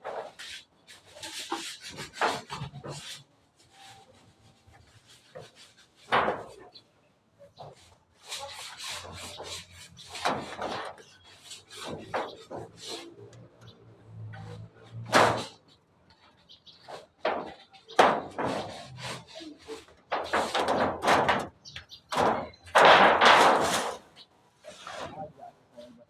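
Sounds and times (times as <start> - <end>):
scraping and rubbing on wood: 0.0 - 25.3.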